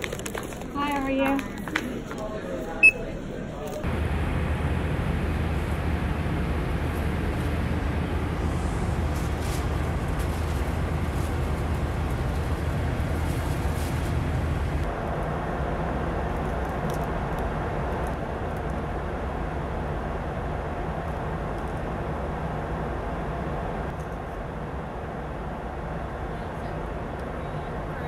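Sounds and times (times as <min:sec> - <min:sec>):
airliner cabin engine and airflow noise: 0:00.0 - 0:28.0.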